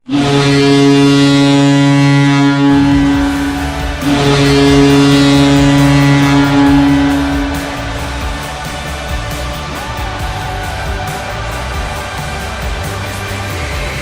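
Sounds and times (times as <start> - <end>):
goal horn blasts: 0.0 - 13.1
low rumble: 0.0 - 14.0.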